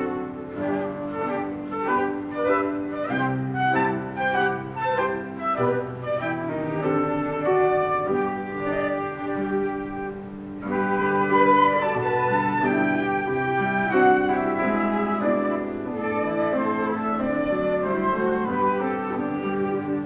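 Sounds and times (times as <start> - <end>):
flutes playing: 0.0 - 20.0
piano: 0.0 - 20.0.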